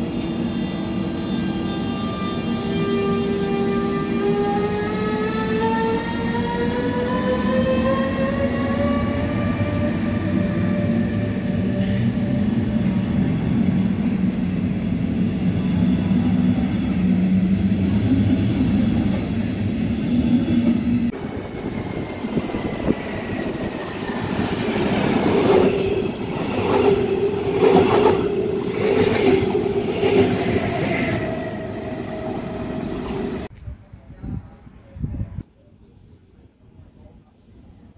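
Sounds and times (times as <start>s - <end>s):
train whine: 0.0s - 33.5s.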